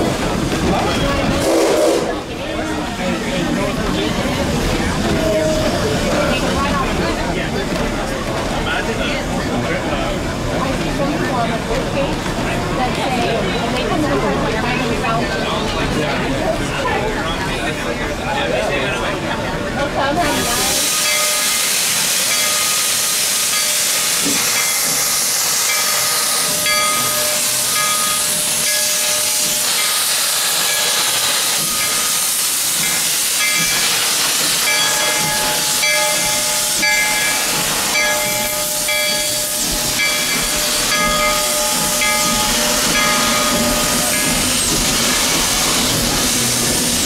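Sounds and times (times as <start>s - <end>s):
steam locomotive hissing: 0.0s - 12.7s, 13.3s - 47.0s.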